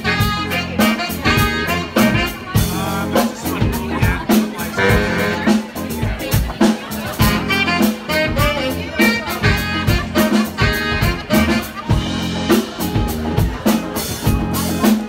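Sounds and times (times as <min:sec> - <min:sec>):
saxophone melody: 0:00.0 - 0:06.0, 0:07.2 - 0:15.0
drum kit steady beat: 0:00.0 - 0:15.0
electric guitars: 0:00.0 - 0:15.0
keyboard: 0:00.0 - 0:15.0.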